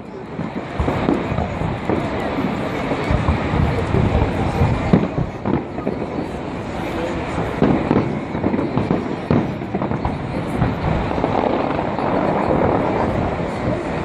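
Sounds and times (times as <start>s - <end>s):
fireworks booming and banging: 0.0s - 14.0s.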